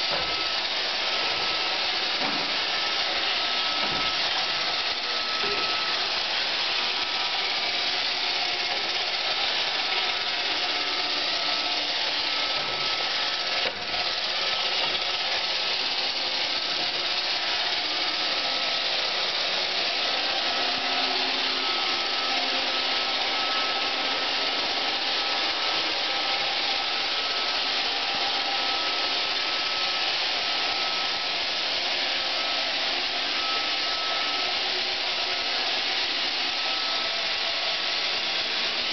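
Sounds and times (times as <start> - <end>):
robot vacuum whirring: 0.0 - 38.9.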